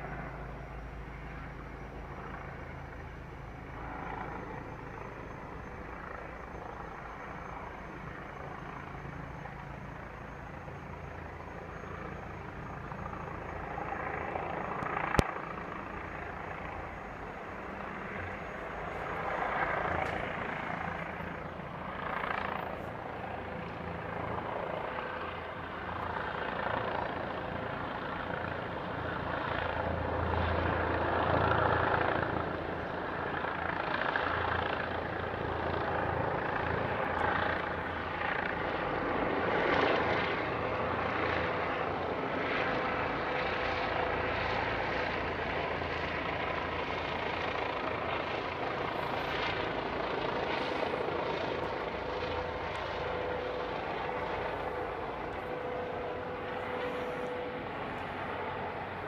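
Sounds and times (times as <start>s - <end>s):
helicopter rotor and engine: 0.0s - 59.0s.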